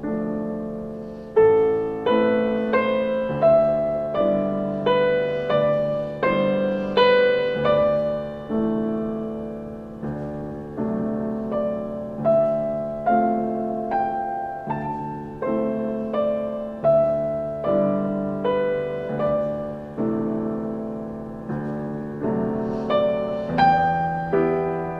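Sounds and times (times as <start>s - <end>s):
slow piano music: 0.0s - 24.9s.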